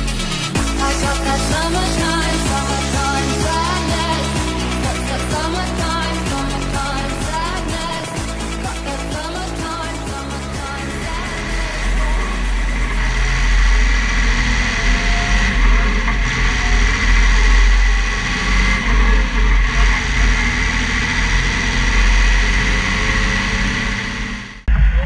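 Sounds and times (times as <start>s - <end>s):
tractor diesel engine running: 0.0s - 24.7s
high-pitched whine: 0.0s - 25.0s.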